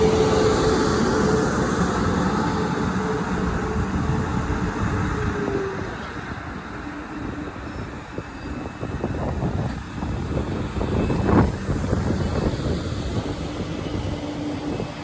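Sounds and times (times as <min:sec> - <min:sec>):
electric train running with whine: 0:00.0 - 0:15.0.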